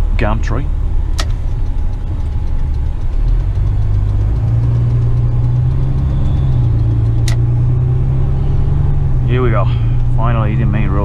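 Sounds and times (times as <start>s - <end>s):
truck diesel engine: 0.0s - 11.0s.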